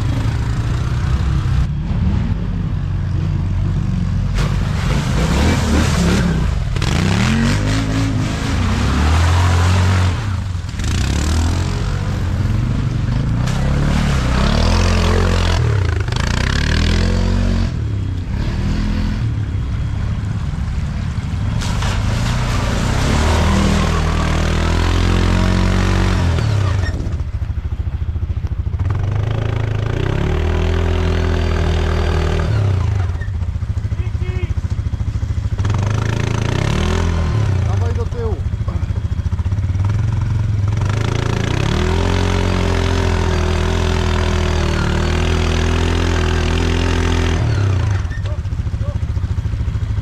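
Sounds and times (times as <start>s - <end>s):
quad bike engine revving: 0.0s - 2.5s, 4.2s - 19.5s, 21.6s - 27.3s, 28.8s - 50.0s
rushing wind and tyres: 0.0s - 50.0s.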